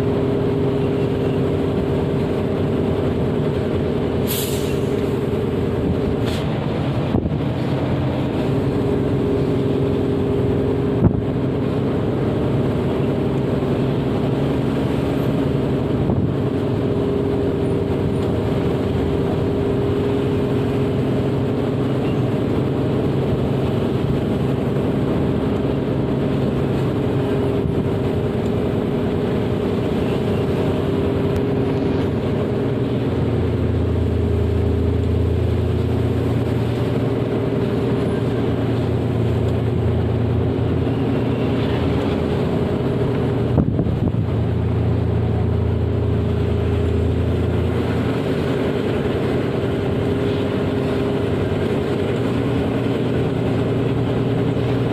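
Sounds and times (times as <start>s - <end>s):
road noise: 0.0s - 54.9s
vehicle engine running: 0.0s - 54.9s.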